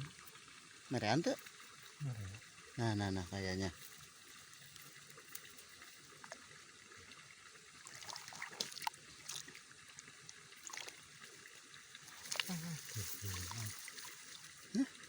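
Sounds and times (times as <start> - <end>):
light water splashes: 0.0 - 15.0
water trickling: 0.0 - 15.0.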